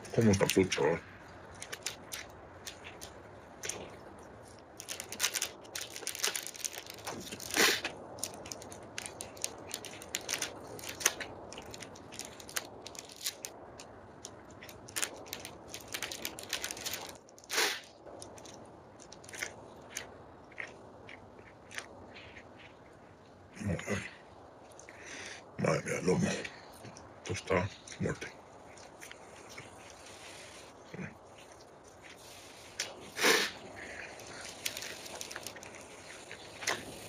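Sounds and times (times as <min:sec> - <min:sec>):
person chewing crunchy snacks: 0:01.5 - 0:23.0, 0:27.9 - 0:37.0.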